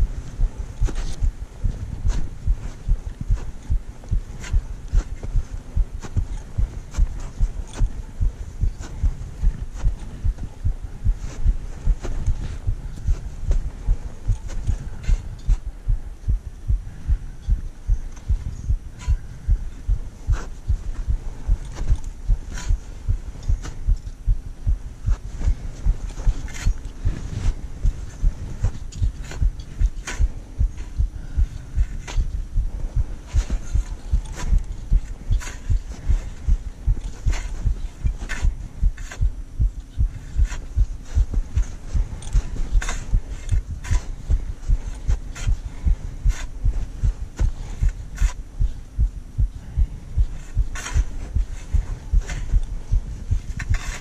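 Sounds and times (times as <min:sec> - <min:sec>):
footsteps crunching in snow: 0:00.0 - 0:16.6, 0:17.7 - 0:48.9.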